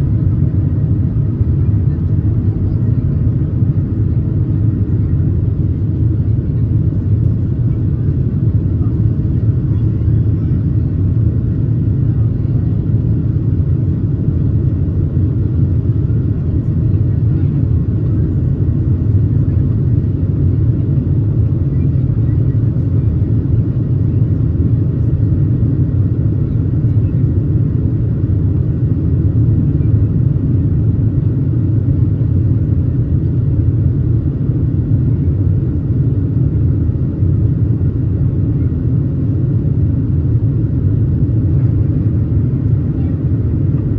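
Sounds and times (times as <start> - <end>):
jet engine cabin rumble: 0.0 - 43.9.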